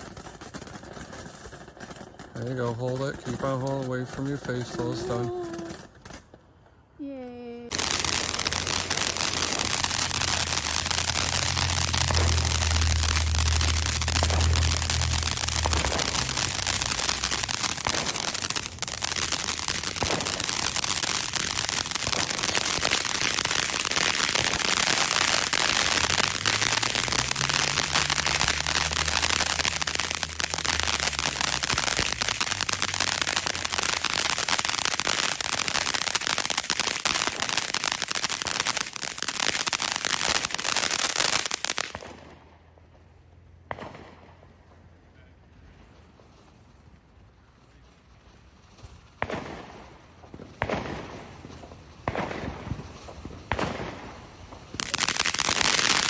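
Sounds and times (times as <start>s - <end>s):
firework crackling and popping: 0.0s - 56.0s.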